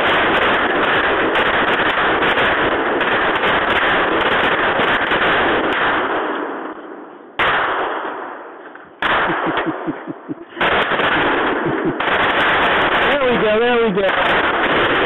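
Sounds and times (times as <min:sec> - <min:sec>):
rifles firing rapidly: 0:00.0 - 0:06.8, 0:07.4 - 0:08.3, 0:09.0 - 0:15.0.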